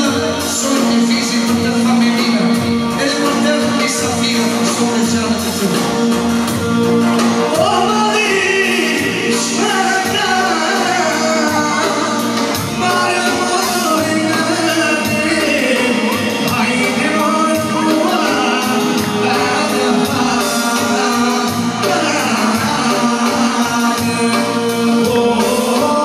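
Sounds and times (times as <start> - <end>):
band music: 0.0 - 26.0
person singing: 0.0 - 26.0.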